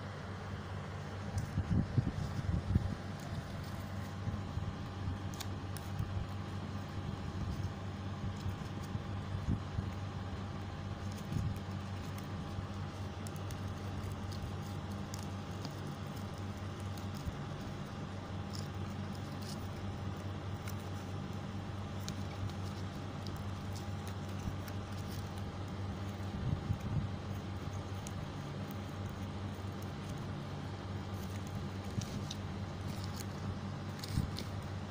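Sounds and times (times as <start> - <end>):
steady low hum: 0.0 - 34.9
paper and wire crinkling: 1.1 - 34.9.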